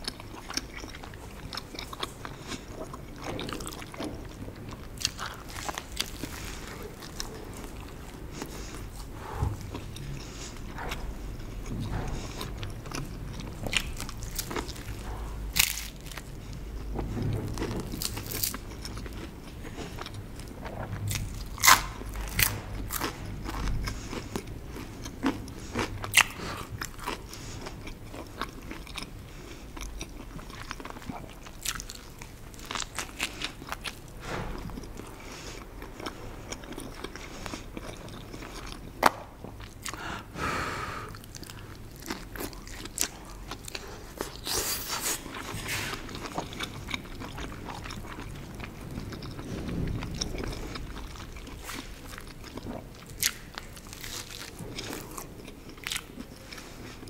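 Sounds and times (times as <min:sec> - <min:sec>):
chewing crunchy bread: 0:00.0 - 0:40.4, 0:41.1 - 0:57.0.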